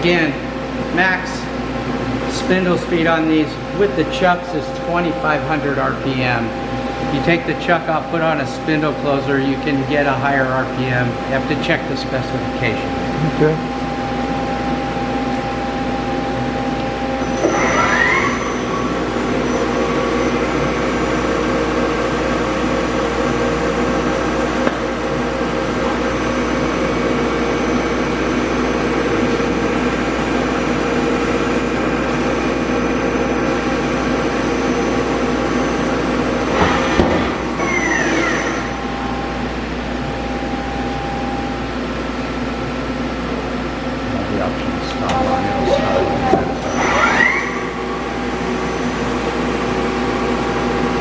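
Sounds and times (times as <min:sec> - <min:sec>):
hum of motors: 0:00.0 - 0:51.0
lathe spindle whine: 0:00.0 - 0:51.0.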